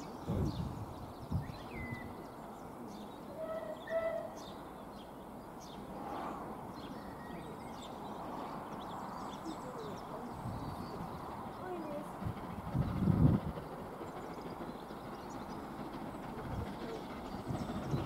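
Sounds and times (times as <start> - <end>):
distant steam locomotive rush: 0.0 - 18.0
small birds chirping: 0.0 - 18.0.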